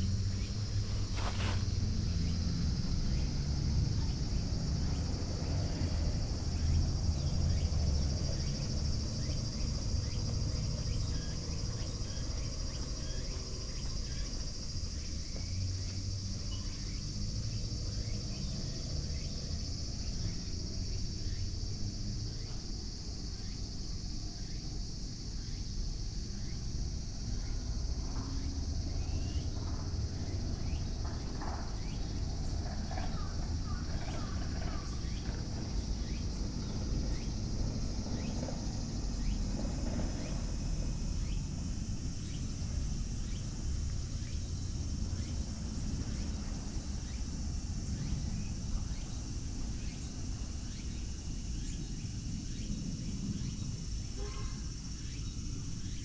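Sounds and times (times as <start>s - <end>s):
crickets chirping chorus: 0.0s - 56.0s.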